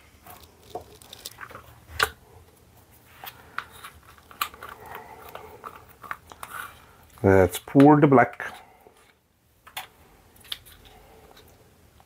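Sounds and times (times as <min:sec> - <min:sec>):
hands handling small items: 0:00.0 - 0:12.0.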